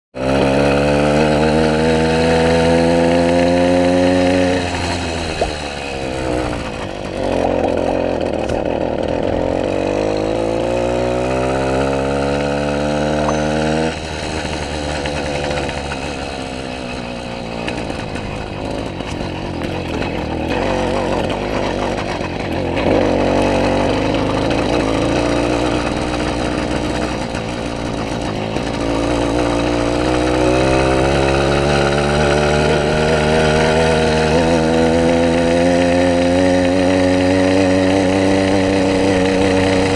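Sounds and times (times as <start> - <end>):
small engine revving: 0.2 - 39.9.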